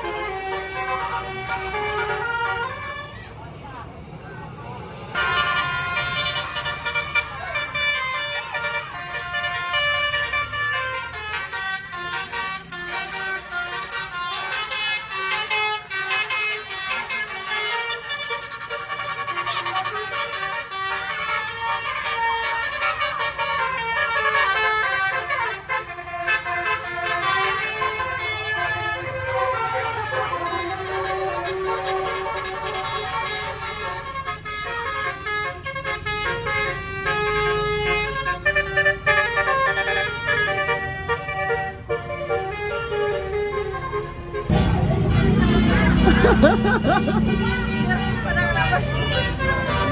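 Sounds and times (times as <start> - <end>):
multi-tone air horn tune: 0.0 - 3.1, 5.2 - 49.9
bus engine rumble: 0.0 - 49.9.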